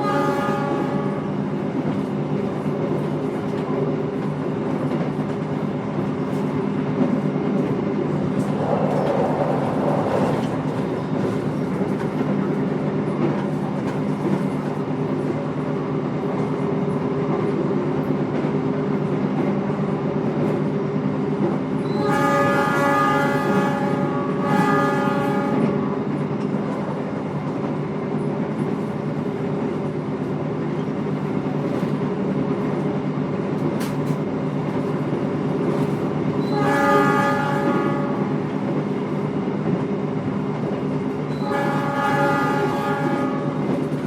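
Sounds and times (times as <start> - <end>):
train carriage rumble and hum: 0.0 - 44.0.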